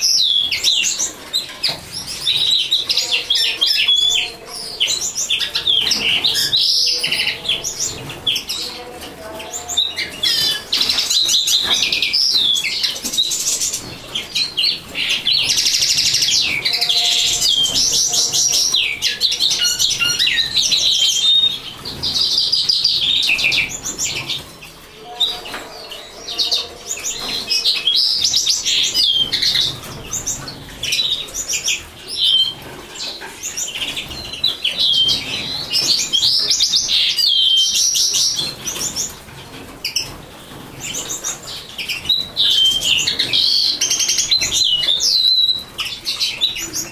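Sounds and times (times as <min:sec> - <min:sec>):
linnet twittering song: 0:00.0 - 0:39.1, 0:40.8 - 0:46.9.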